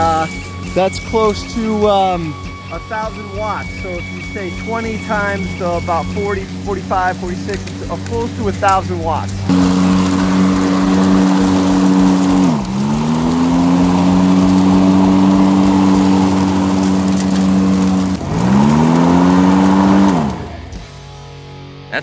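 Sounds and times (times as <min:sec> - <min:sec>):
electric mower motor humming: 0:00.0 - 0:21.3.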